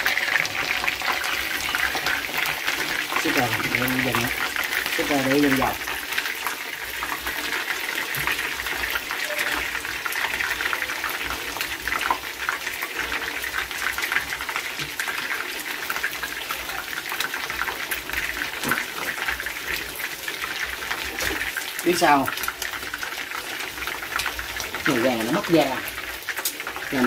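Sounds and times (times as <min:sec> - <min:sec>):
chicken frying in hot oil: 0:00.0 - 0:27.0
small crackles and pops: 0:00.0 - 0:27.0.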